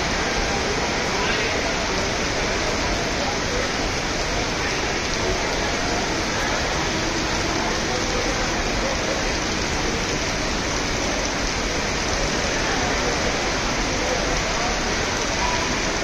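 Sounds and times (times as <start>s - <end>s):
faint crowd voices: 0.0s - 16.0s
heavy rain falling: 0.0s - 16.0s.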